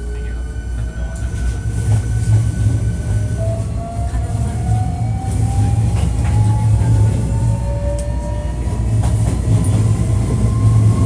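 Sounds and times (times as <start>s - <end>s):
train wheels rumbling: 0.1s - 11.0s.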